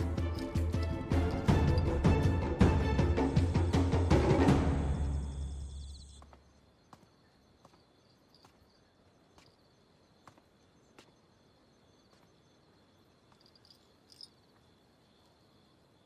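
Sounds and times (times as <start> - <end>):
crickets chirping: 0.0 - 2.4, 4.4 - 16.0.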